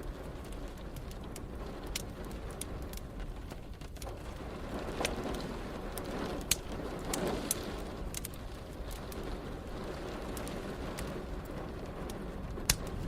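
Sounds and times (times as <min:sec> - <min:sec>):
rain: 0:00.0 - 0:13.0
wood fire crackling and popping: 0:00.0 - 0:13.0.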